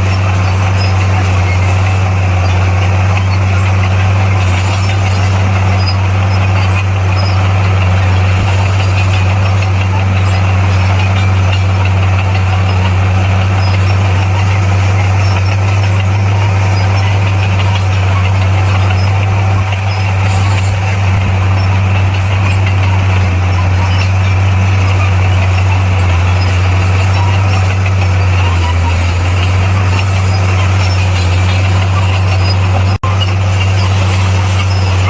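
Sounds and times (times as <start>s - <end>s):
bulldozer diesel engine droning: 0.0s - 35.0s.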